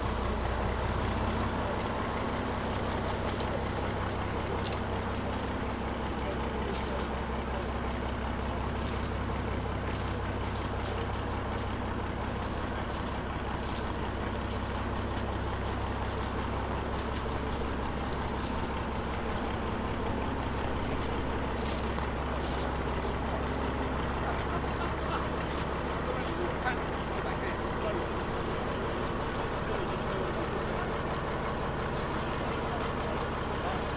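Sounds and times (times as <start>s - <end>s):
heavy vehicle engine running: 0.0s - 33.9s.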